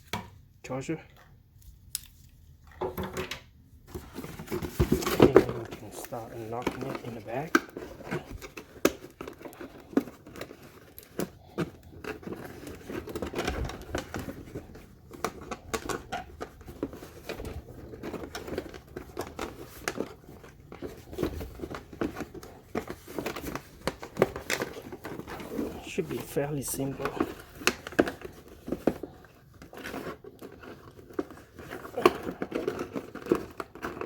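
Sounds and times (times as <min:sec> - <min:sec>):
cardboard and plastic crinkling: 0:00.8 - 0:34.0.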